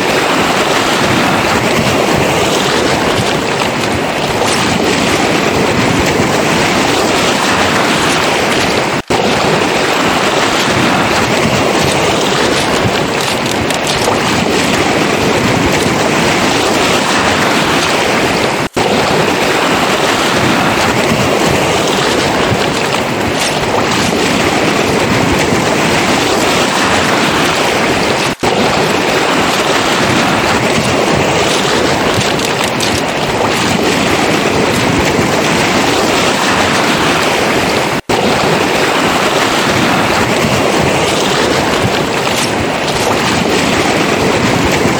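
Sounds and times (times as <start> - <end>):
surf on a pebble beach: 0.0 - 44.9
wind buffeting the microphone: 0.0 - 44.9.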